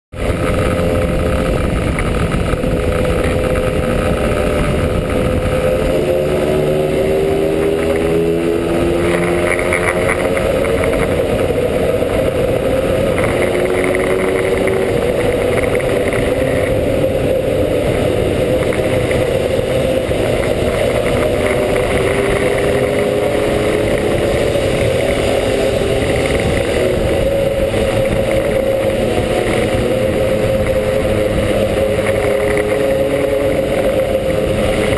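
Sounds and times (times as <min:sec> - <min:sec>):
low road rumble: 0:00.1 - 0:34.9
scooter engine running: 0:00.1 - 0:34.9.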